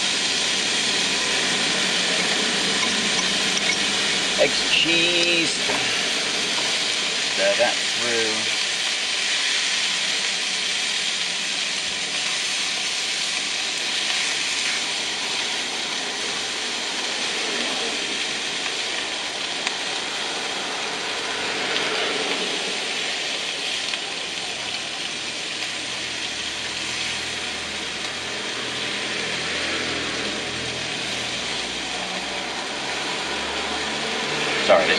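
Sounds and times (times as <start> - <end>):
food sizzling in a frying pan: 0.0 - 34.9.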